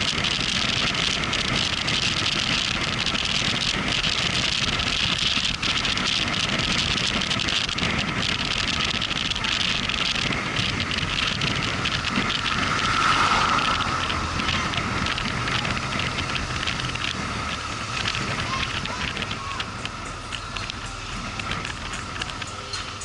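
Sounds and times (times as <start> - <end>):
motorcycle engine at road speed: 0.0 - 23.0
road and wind noise: 0.0 - 23.0.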